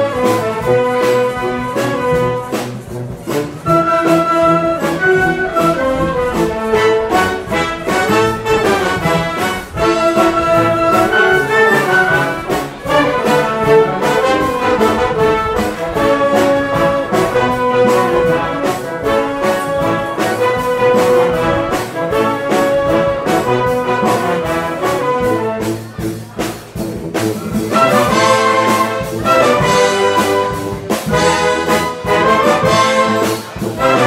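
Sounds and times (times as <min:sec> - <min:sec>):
percussion beat: 0:00.0 - 0:34.0
wind band playing: 0:00.0 - 0:34.0.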